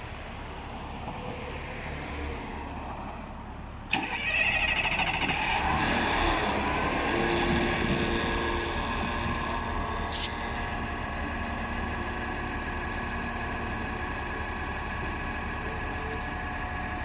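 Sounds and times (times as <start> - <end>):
bus engine starting and idling: 0.0 - 17.0.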